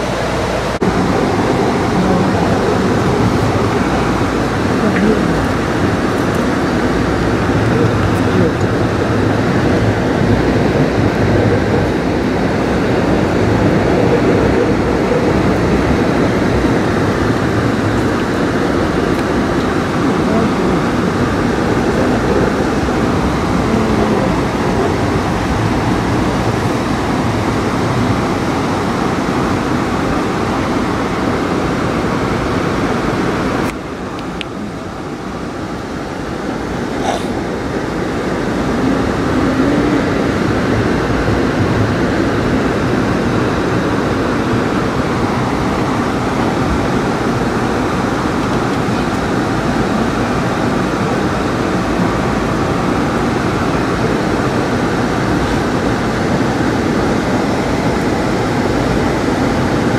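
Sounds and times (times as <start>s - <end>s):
passenger train rumbling on rails: 0.0s - 59.9s.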